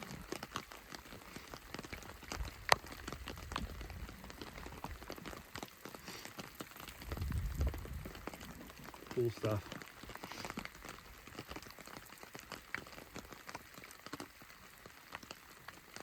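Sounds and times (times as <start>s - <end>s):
rain falling: 0.0s - 16.0s
raindrops ticking close by: 0.0s - 16.0s.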